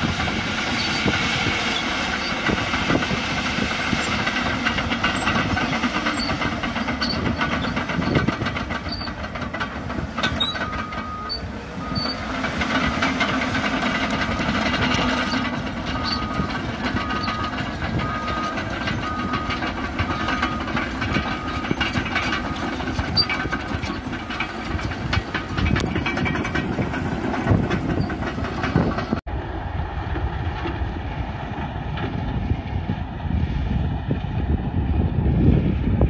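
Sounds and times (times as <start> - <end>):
steel tracks clattering: 0.0 - 29.2
bulldozer diesel engine: 0.0 - 36.0
distant heavy machinery drone: 0.0 - 36.0.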